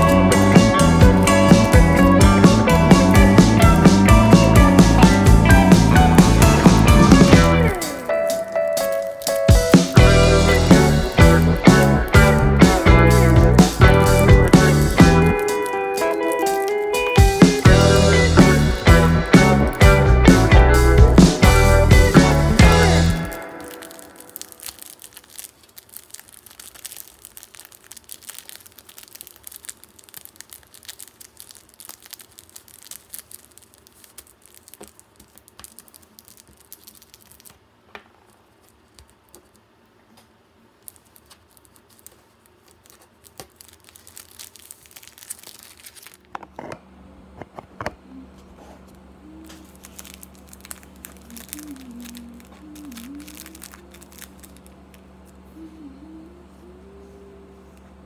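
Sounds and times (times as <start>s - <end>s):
steady low hum: 0.0s - 8.6s, 9.4s - 58.0s
plastic sheet crinkling: 4.5s - 46.6s, 49.2s - 55.7s.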